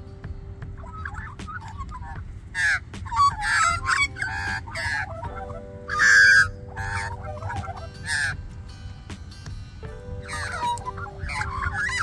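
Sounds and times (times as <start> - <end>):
birds warbling softly: 0.0 - 12.0
birds squawking harshly: 0.7 - 12.0.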